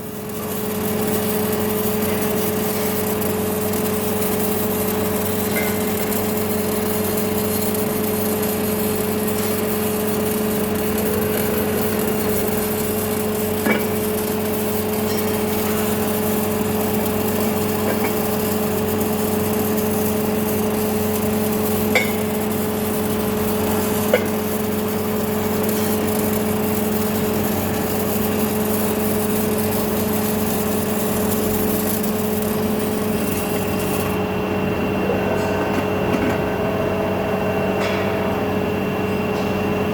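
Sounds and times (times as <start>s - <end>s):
welding machine humming: 0.0s - 39.9s.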